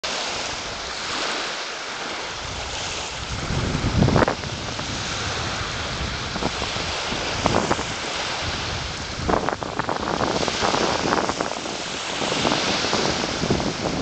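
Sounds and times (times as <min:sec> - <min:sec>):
small waves lapping on sand: 0:00.0 - 0:14.0
wind rumbling on microphone: 0:00.1 - 0:14.0.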